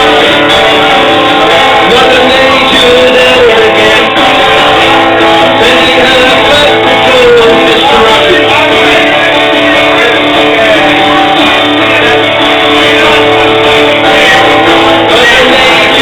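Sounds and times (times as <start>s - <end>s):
live music with strummed guitar: 0.0s - 16.0s.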